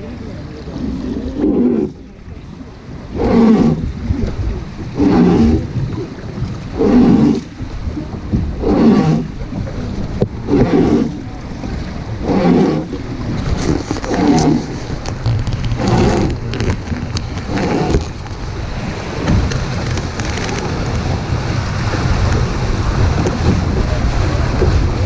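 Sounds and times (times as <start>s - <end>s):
rushing water: 0.0s - 25.0s
wind: 0.0s - 25.0s
wooden boat groaning: 0.0s - 25.0s.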